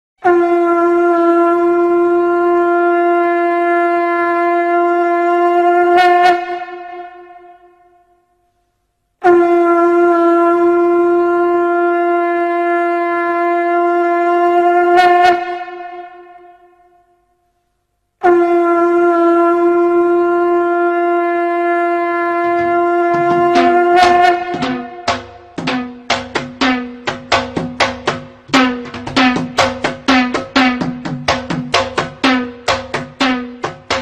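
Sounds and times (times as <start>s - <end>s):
conch shell blasts: 0.2s - 8.0s, 9.2s - 17.2s, 18.2s - 34.0s.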